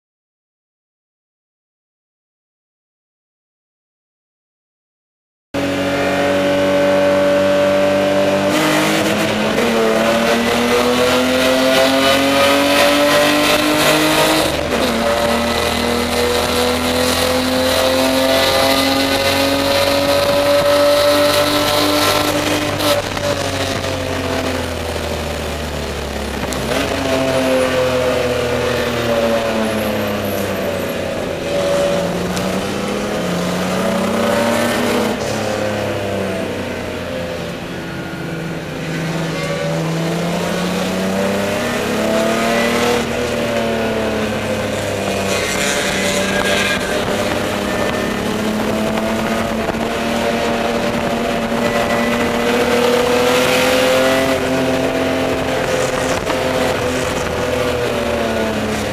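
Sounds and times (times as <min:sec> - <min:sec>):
race car engine accelerating: 0:05.6 - 0:58.9.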